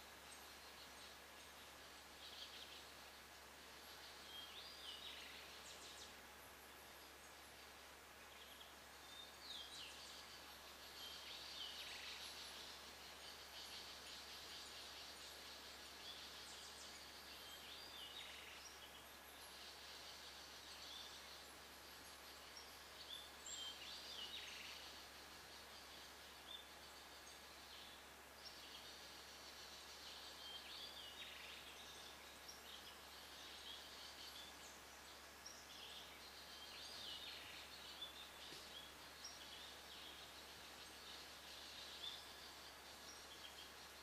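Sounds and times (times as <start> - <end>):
faint high hiss: 0.0 - 44.0.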